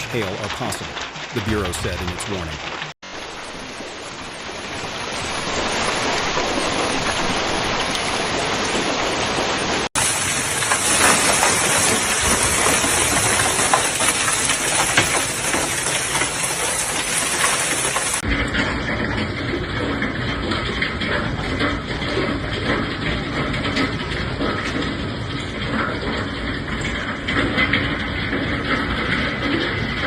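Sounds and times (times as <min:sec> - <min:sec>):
heavy rain downpour: 0:00.0 - 0:30.0
sharp raindrop hits: 0:00.0 - 0:30.0.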